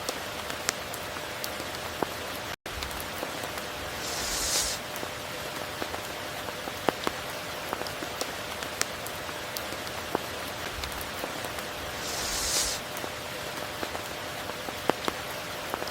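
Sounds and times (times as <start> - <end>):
raindrops striking close by: 0.0 - 15.9
steady rain: 0.0 - 15.9.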